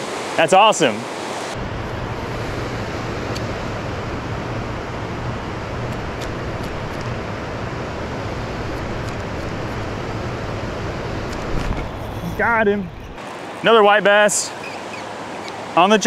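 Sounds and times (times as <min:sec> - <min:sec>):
low steady hum: 0:00.0 - 0:13.2
wind and water rushing: 0:00.0 - 0:16.0.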